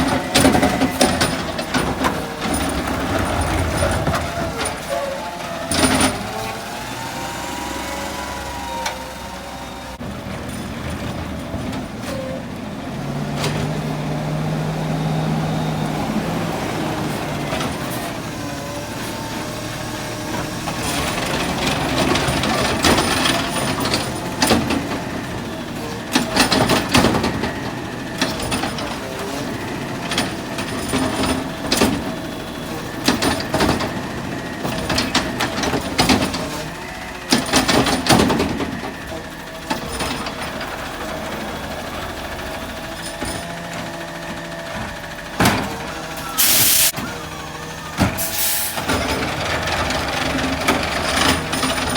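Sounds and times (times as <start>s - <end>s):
garbage truck engine hum: 0.0s - 51.9s.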